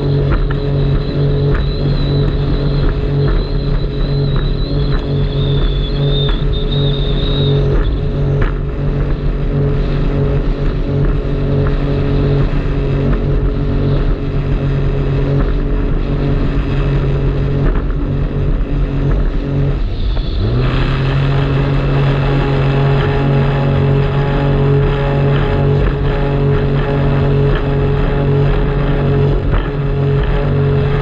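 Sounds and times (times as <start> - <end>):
jet ski engine running: 0.0 - 31.0.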